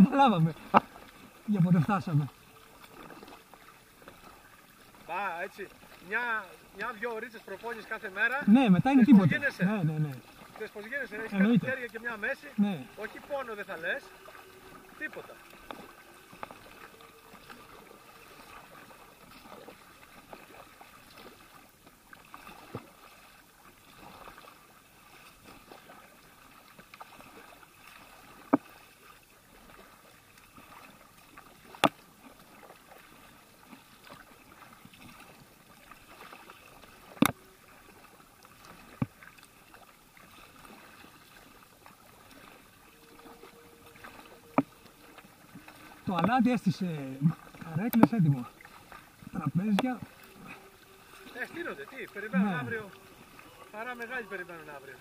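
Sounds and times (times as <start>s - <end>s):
paddle splashing in water: 0.0s - 55.0s.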